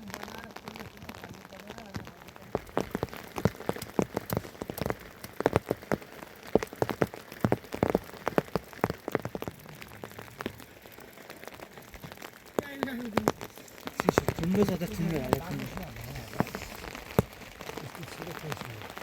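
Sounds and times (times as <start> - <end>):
large raindrops tapping a surface: 0.0 - 19.0
low hiss of rain: 0.0 - 19.0.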